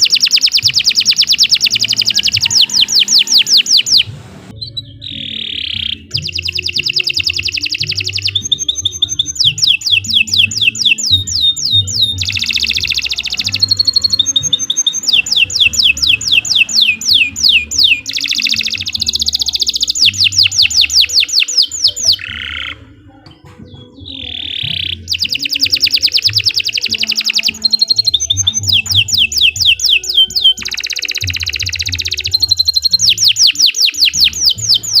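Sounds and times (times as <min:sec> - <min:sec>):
canary singing rolling trills: 0:00.0 - 0:35.0.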